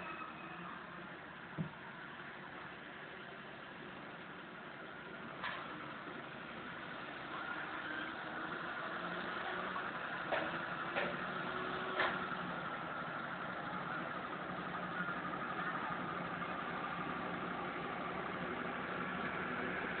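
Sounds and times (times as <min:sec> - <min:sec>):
vehicle engine idling: 0:00.6 - 0:20.0.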